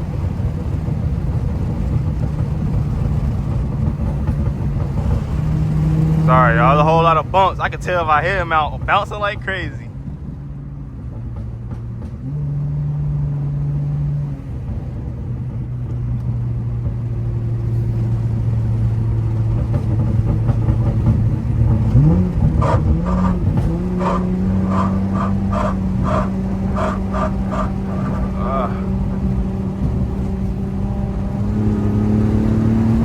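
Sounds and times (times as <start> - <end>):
car engine revving: 0.0 - 33.0
road noise inside car: 0.0 - 33.0.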